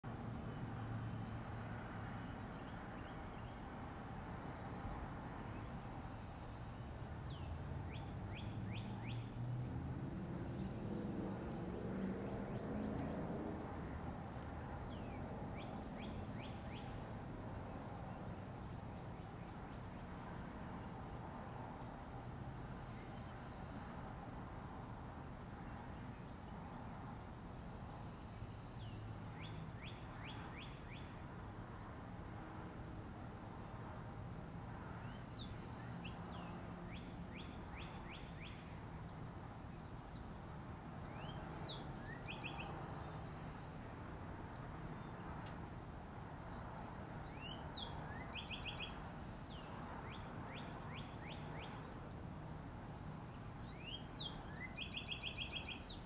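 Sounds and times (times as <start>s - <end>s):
songbird chirping: 0.0s - 13.6s, 14.2s - 20.8s, 25.6s - 31.2s, 34.7s - 56.0s.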